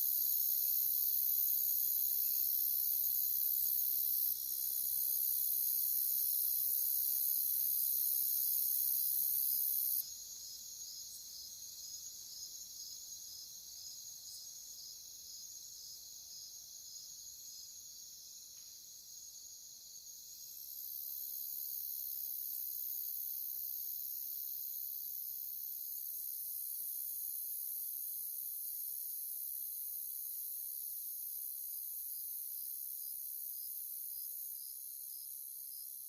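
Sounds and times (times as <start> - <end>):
crickets pulsed chirping: 0.0 - 36.0.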